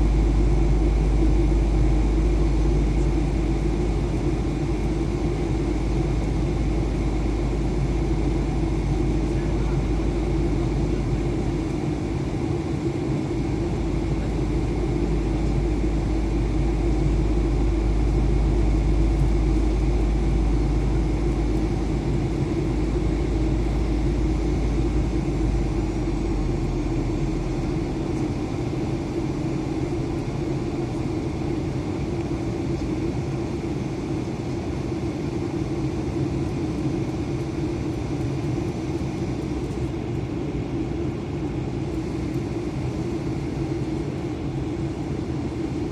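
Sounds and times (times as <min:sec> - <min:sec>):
aircraft engine hum: 0:00.0 - 0:45.9.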